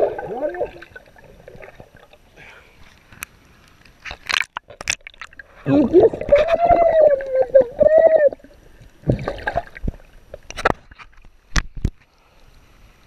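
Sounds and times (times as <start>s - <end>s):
water sloshing and gurgling: 0.0s - 12.6s.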